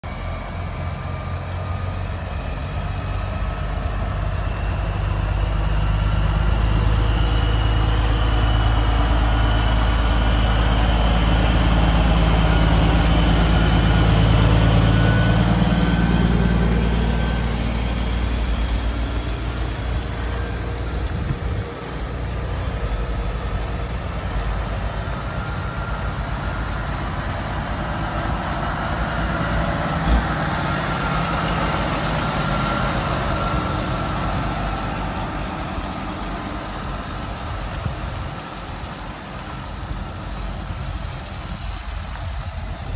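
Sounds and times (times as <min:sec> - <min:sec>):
tractor diesel engine running: 0:00.0 - 0:42.9
truck diesel engine rumbling: 0:00.0 - 0:42.9.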